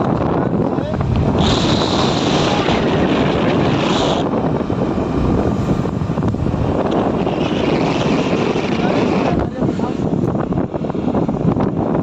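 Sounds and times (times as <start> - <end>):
vehicle rumble and tyres on road: 0.0 - 12.0
wind buffeting microphone: 0.0 - 12.0.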